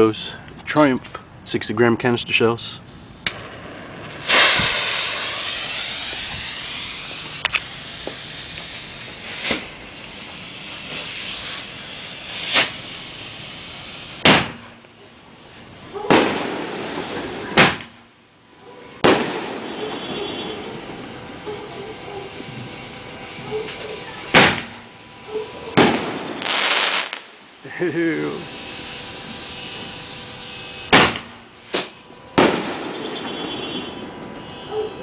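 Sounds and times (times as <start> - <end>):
firework hiss and crackle: 2.6 - 34.7
firework shells booming: 3.3 - 14.9, 15.9 - 18.1, 18.9 - 27.5, 28.5 - 34.7.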